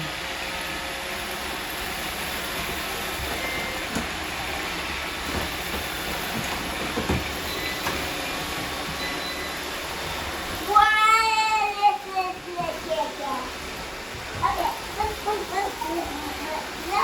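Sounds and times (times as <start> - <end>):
robot vacuums whirring: 0.4 - 17.0.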